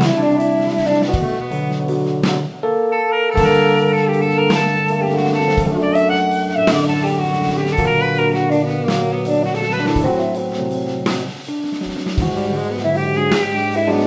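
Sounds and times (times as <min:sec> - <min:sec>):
drum strokes: 0:00.0 - 0:14.0
small jazz band playing: 0:00.0 - 0:14.0.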